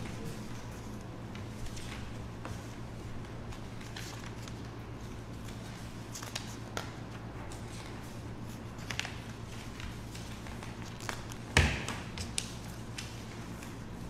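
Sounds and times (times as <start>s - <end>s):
paper rustling: 0.0s - 14.0s
steady low hum: 0.0s - 14.0s.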